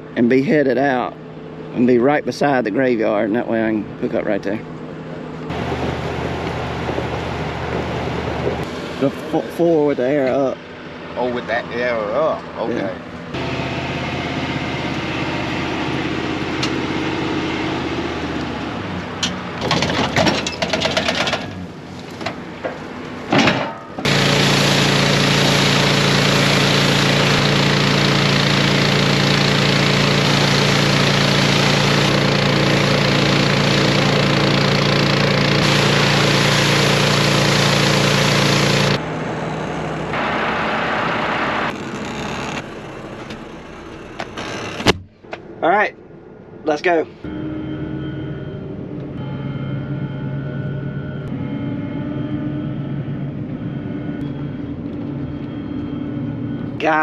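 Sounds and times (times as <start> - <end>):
heavy machine engine running: 2.5 - 45.6, 47.2 - 57.0.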